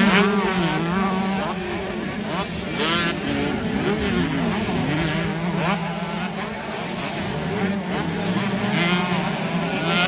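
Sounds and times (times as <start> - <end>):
motocross engines droning: 0.0 - 10.0
motorcycle revs climbing: 0.0 - 10.0.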